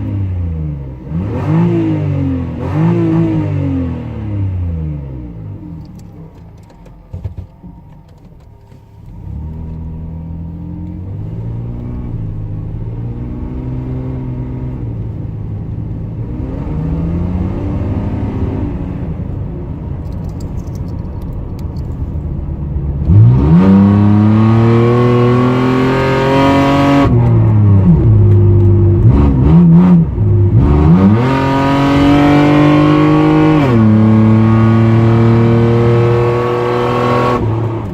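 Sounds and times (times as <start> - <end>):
car engine idling and revving: 0.0 - 37.9.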